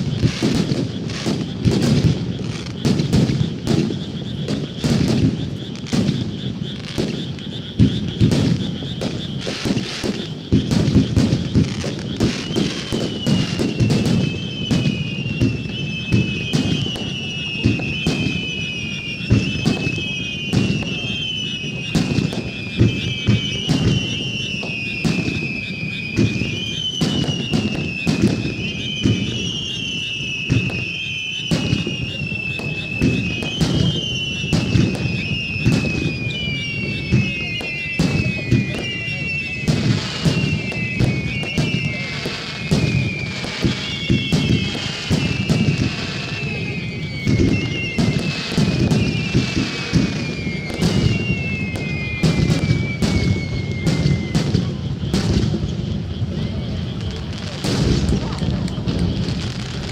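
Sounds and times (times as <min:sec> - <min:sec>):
fireworks crackling: 0:00.0 - 0:59.9
fireworks launching and bursting: 0:00.0 - 0:59.9
high whistling tones sliding down: 0:00.0 - 0:59.9.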